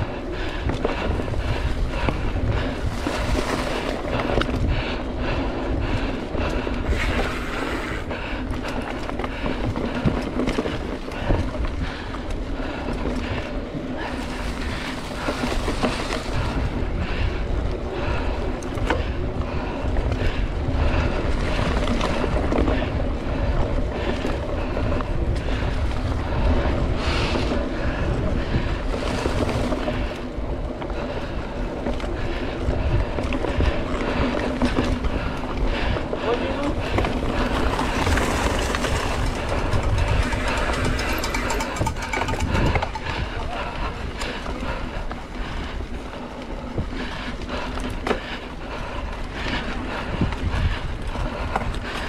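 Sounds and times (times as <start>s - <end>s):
bike clicks and rattles: 0.0s - 52.0s
tyres rumbling on dirt trail: 0.0s - 52.0s
wind buffeting microphone: 0.0s - 52.0s.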